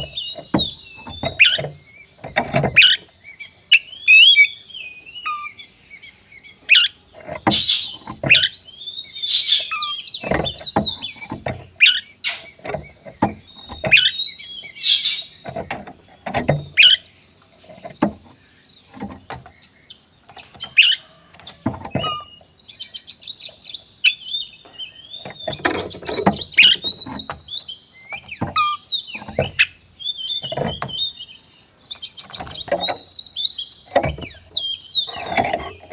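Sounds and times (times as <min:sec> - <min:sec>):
bird singing whistles and trills: 0:00.0 - 0:35.9.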